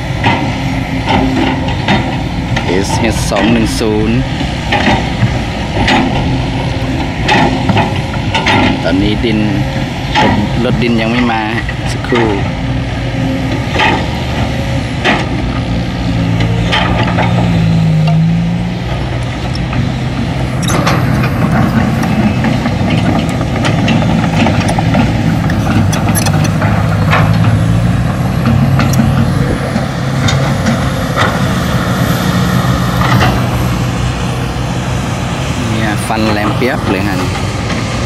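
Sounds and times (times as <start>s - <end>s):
excavator diesel engine under load: 0.0s - 38.0s.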